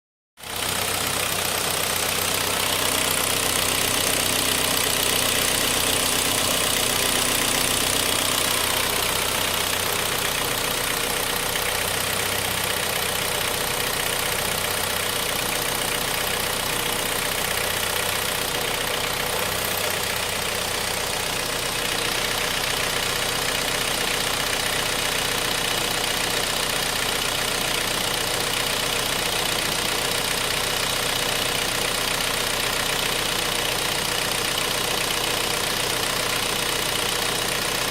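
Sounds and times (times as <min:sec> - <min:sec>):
engine idling with clatter: 0:00.4 - 0:37.9.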